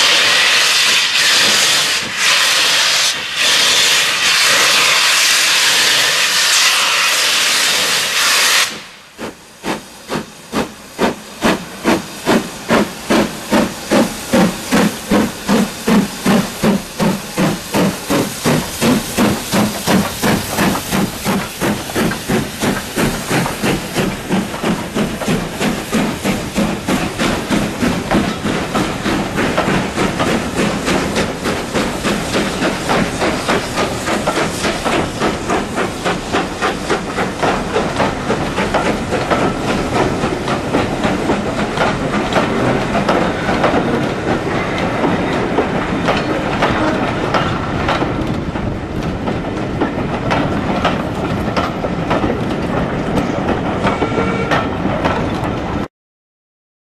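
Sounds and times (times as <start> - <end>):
train wheels clattering over rail joints: 9.2 - 55.9.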